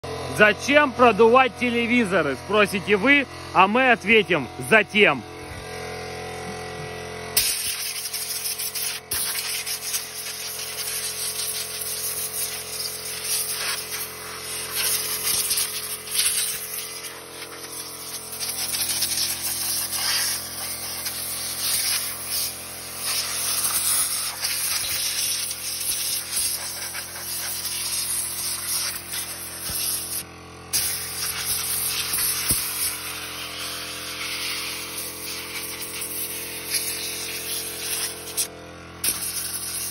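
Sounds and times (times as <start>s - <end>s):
compressed air gun hissing: 7.4s - 39.9s.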